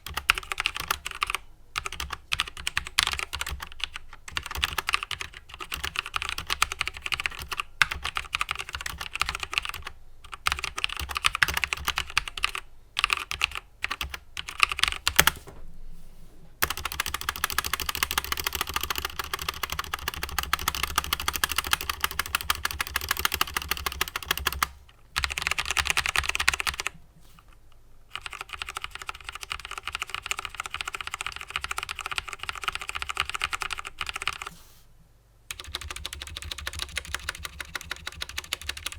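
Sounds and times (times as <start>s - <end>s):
mechanical keyboard typing: 0.0s - 15.5s, 16.6s - 26.9s, 28.1s - 34.5s, 35.5s - 38.9s.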